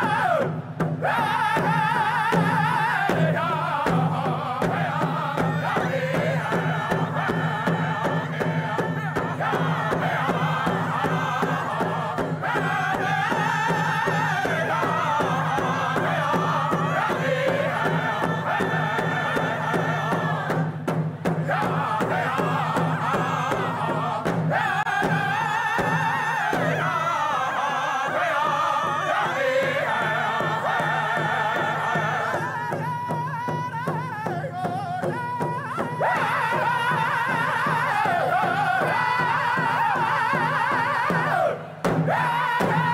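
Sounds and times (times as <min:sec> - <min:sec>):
group of voices chanting: 0:00.0 - 0:33.1, 0:35.8 - 0:42.9
frame drums beating: 0:00.0 - 0:42.9.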